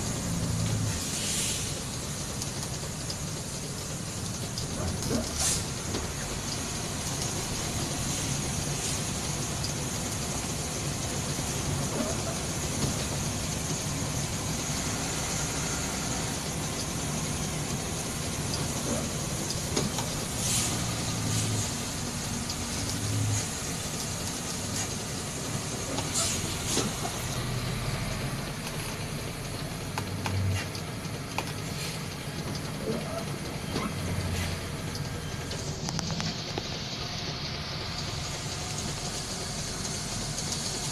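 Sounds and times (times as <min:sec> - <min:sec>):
tyre hiss on wet road: 0:00.0 - 0:30.7, 0:31.6 - 0:32.3, 0:34.0 - 0:40.9
bus engine running under load: 0:00.0 - 0:40.9.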